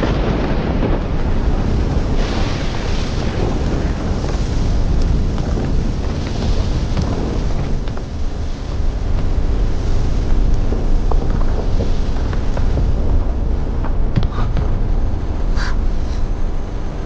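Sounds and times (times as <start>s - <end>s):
deep rumbling: 0.0s - 17.0s
wind-like rushing noise: 0.0s - 17.0s.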